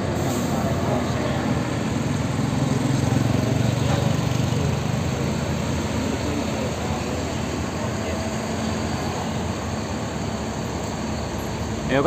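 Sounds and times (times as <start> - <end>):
bus diesel engine passing: 0.0 - 12.0.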